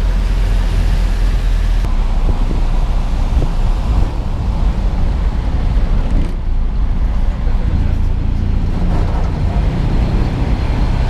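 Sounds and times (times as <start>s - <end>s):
road and engine noise: 0.0s - 11.0s
wind buffeting microphone: 1.8s - 11.0s.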